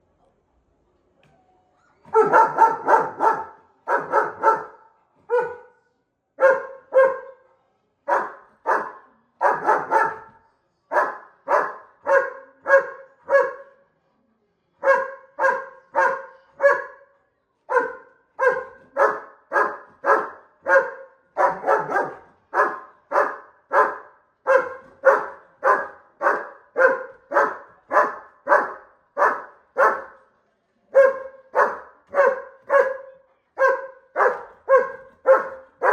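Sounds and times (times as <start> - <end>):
dog barking: 2.1 - 5.8, 6.4 - 7.4, 8.1 - 13.8, 14.8 - 17.1, 17.7 - 30.2, 30.9 - 35.9.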